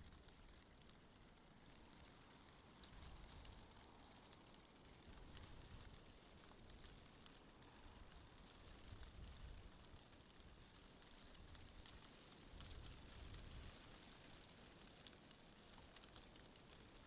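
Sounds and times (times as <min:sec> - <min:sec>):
light ticks: 0:00.0 - 0:17.0.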